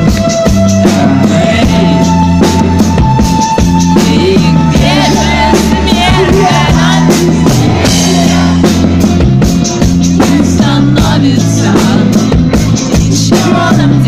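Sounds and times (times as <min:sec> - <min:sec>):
wavering lead melody: 0:00.0 - 0:12.8
bass: 0:00.0 - 0:14.0
drums: 0:00.0 - 0:14.0.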